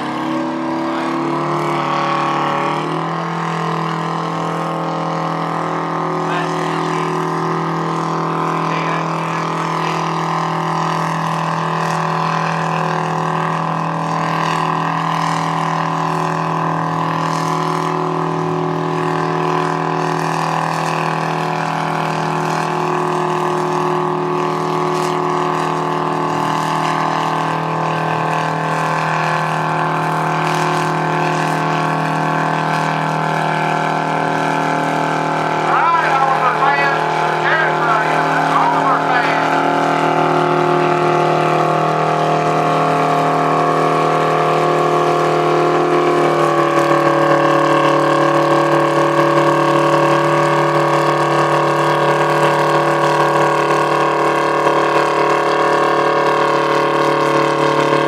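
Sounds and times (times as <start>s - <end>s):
tractor engine running hard: 0.0s - 58.0s.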